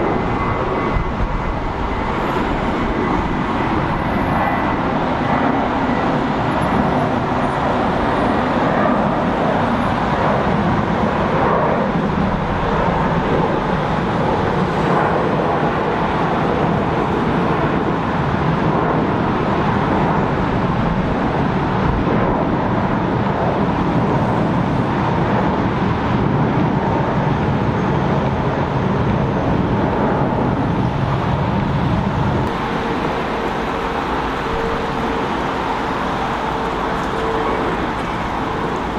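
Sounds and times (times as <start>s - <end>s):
jet airliner engines rushing: 0.0s - 38.9s.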